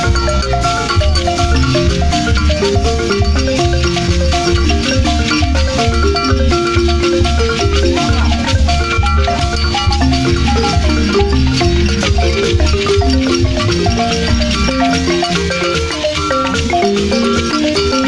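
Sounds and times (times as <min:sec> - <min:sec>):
steady low beat: 0:00.0 - 0:15.6
balafons playing interlocking pattern: 0:00.0 - 0:18.0.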